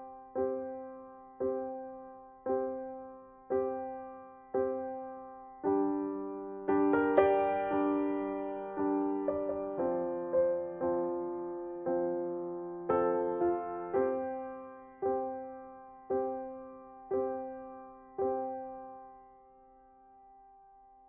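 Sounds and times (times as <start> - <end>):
soft piano chords: 0.0 - 21.0.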